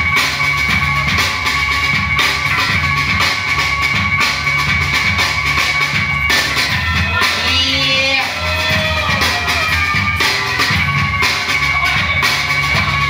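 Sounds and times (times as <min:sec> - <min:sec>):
breakbeat drum beat: 0:00.0 - 0:13.0.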